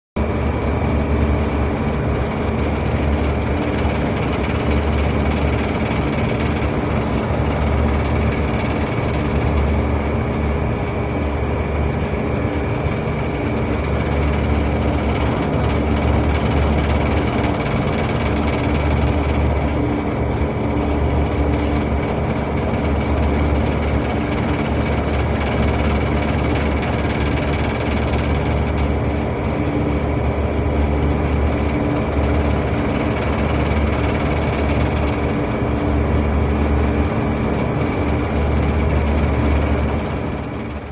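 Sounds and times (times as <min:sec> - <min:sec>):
air conditioner fan rattling: 0:00.2 - 0:40.9
constant whir: 0:00.2 - 0:40.9
low pulsing hum: 0:00.2 - 0:40.9.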